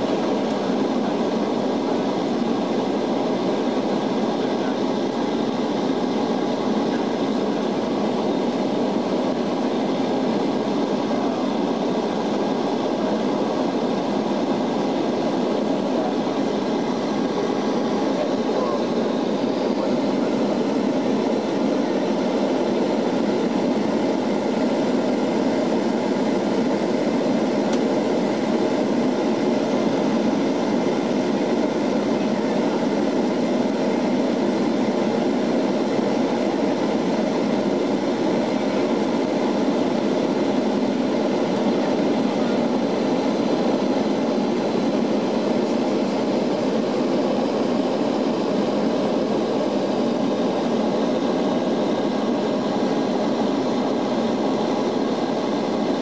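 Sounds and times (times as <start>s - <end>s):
turboprop cabin drone: 0.0s - 56.0s.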